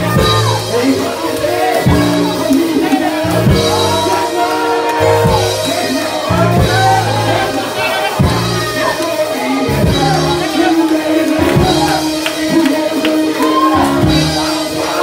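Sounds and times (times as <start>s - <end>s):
drum kit: 0.0s - 15.0s
held bass notes: 0.0s - 15.0s
voices singing: 0.0s - 15.0s.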